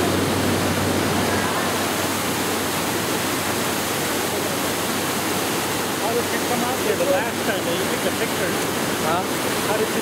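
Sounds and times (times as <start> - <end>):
whitewater rushing in river: 0.0 - 10.0.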